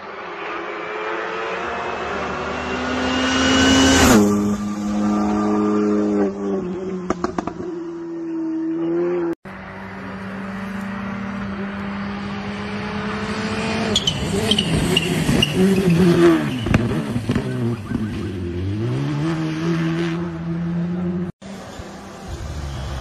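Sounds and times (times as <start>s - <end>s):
rally car engine revving: 0.4s - 23.0s.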